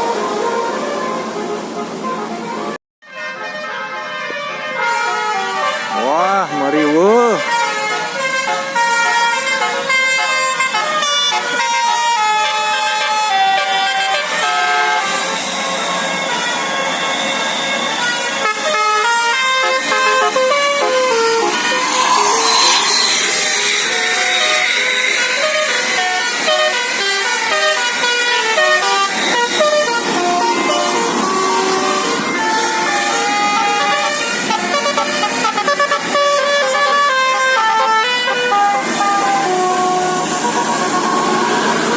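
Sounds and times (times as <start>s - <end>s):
bus horn playing a tune: 0.0s - 41.9s
street noise: 0.0s - 41.9s.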